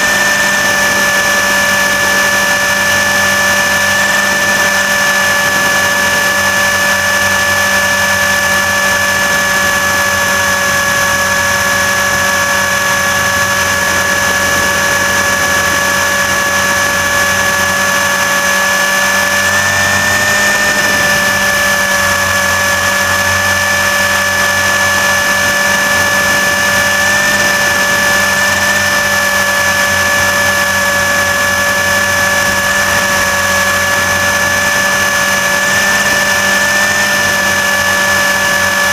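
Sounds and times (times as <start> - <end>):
rc helicopter rotor whine: 0.0 - 38.9.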